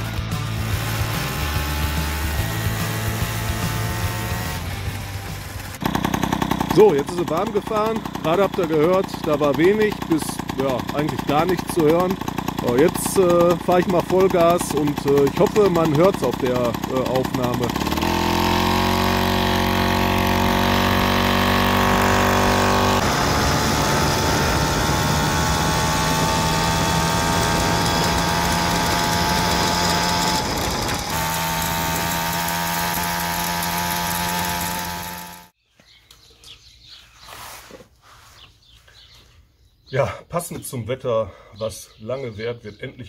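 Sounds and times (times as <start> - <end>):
two-stroke moped engine revving: 0.0 - 35.6.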